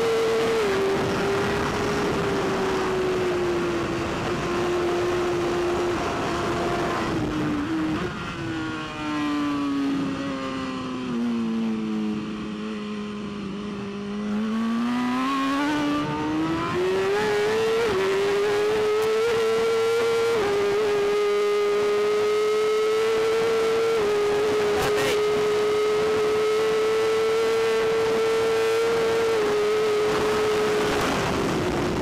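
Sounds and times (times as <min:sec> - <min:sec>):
motorcycle engine revving high: 0:00.0 - 0:32.0.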